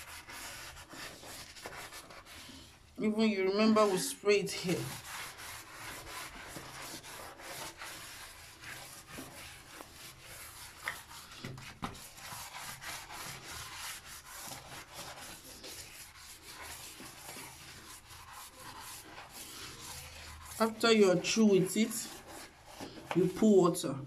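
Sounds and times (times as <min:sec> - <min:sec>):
sponge scrubbing floor tiles: 0:00.0 - 0:24.0.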